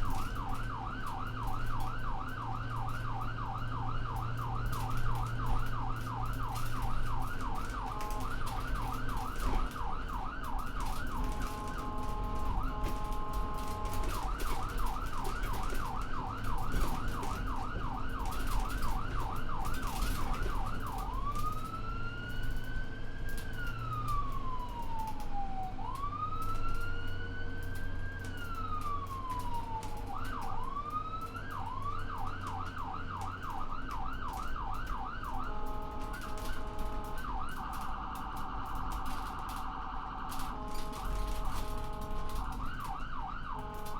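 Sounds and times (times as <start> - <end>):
electronic ambulance siren: 0.0 - 43.9.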